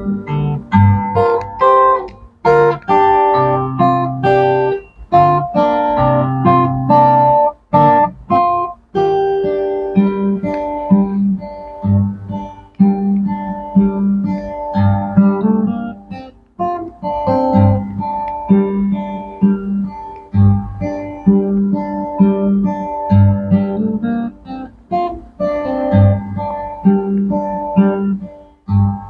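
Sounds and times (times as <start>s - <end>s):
solo guitar playing: 0.0s - 29.0s.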